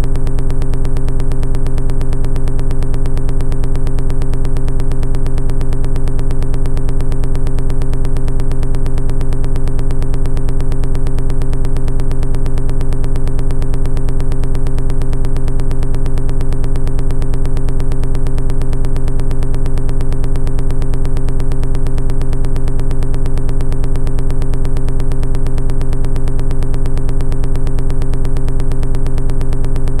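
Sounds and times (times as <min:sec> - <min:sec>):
electronic buzzing drone: 0:00.0 - 0:30.0.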